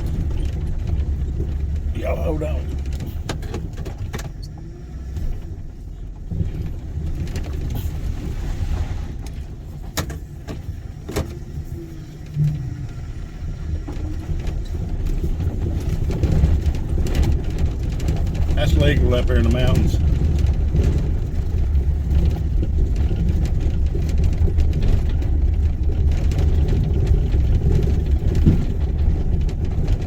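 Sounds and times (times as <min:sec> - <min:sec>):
car rumbling over dirt road: 0:00.0 - 0:30.0
knocks and rattles from bumps: 0:00.0 - 0:30.0.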